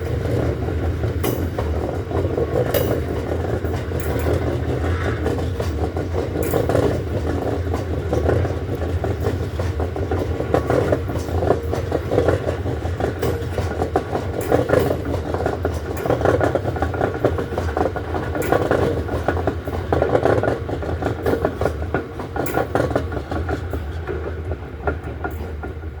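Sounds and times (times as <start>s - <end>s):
freight train rumbling past: 0.0s - 26.0s
wheels clattering over rail joints: 0.0s - 26.0s.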